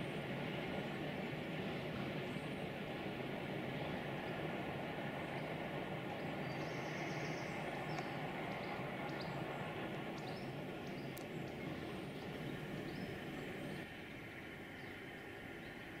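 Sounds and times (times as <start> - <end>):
distant train rumbling: 0.0 - 16.0.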